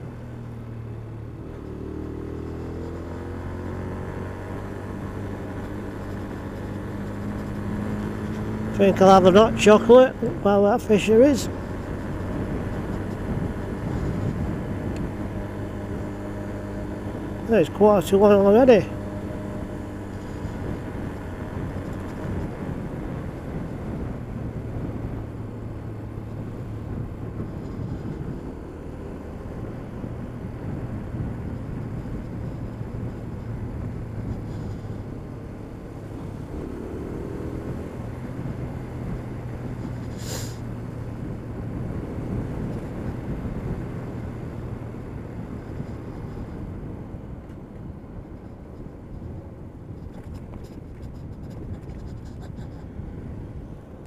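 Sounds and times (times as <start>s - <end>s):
motorcycle engine running: 0.0s - 54.0s
hiss of tyres and wind: 0.5s - 54.0s.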